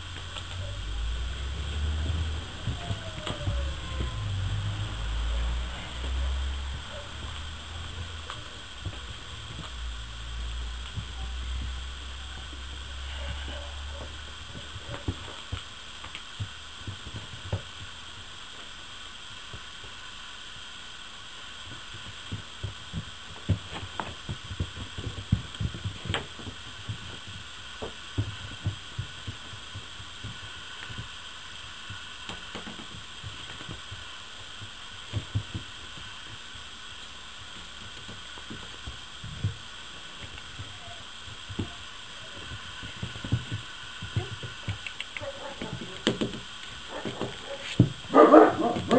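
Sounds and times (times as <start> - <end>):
puppies scuffling thumps: 0.0 - 18.3, 21.6 - 31.2, 31.8 - 36.6, 37.4 - 48.9
steady hiss: 0.0 - 48.9.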